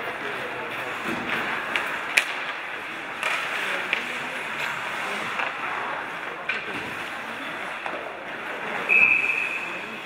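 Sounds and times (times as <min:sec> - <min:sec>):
hockey sticks and puck clacking: 0:00.0 - 0:10.0
skates scraping on ice: 0:00.0 - 0:10.0.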